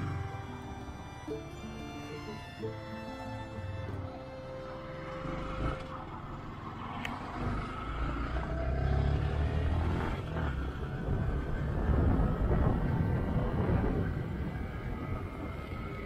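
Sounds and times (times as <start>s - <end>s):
heavy wind and road noise: 0.0s - 16.0s.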